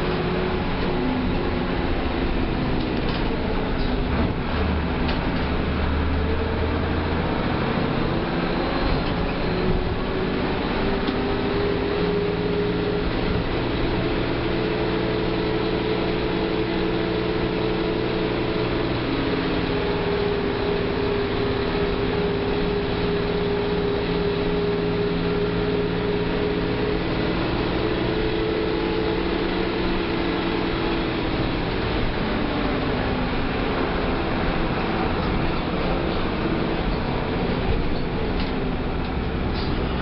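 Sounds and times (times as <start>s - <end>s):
bus diesel engine running: 0.0s - 40.0s.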